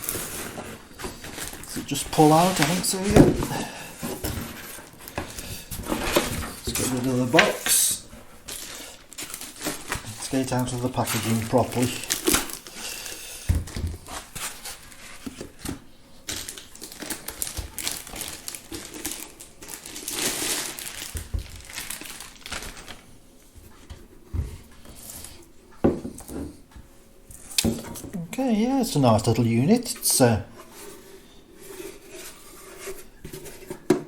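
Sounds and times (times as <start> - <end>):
plastic wrap rustling and crinkling: 0.0 - 26.7, 27.3 - 34.0.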